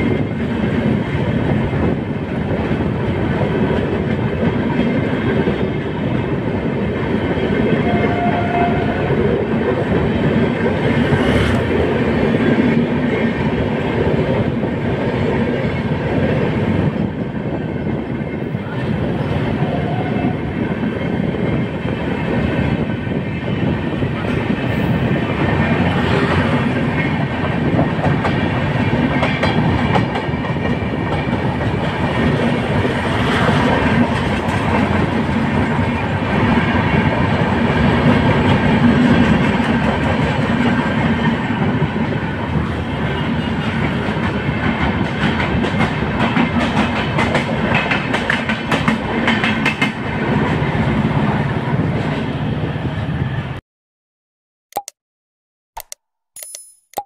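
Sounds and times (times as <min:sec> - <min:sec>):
train loud rumble: 0:00.0 - 0:53.6.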